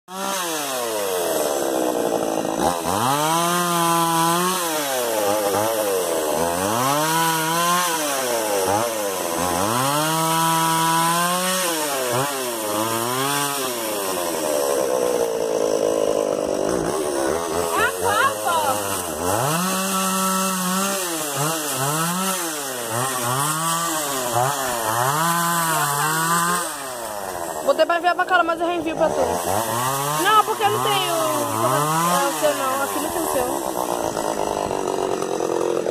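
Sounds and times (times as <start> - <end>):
chainsaw engine revving: 0.1 - 35.9.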